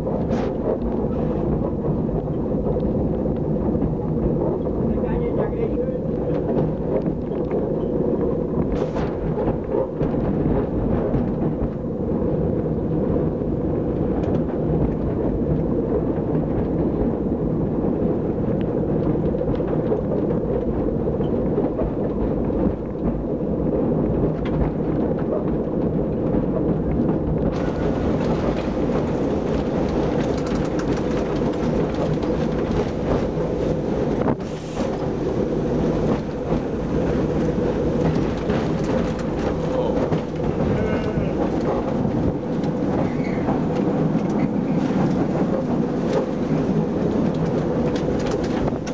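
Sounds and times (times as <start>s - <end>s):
tram wheels rumbling on rails: 0.0s - 48.9s.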